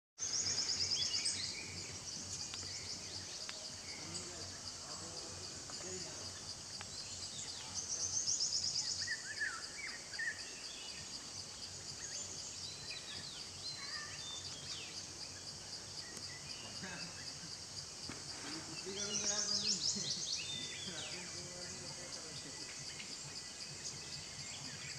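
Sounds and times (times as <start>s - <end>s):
insects chorus: 0.2s - 24.9s.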